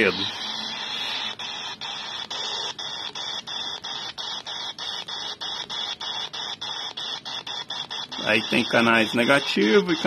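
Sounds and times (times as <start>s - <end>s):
radio static hiss: 0.0s - 6.4s, 7.1s - 10.0s.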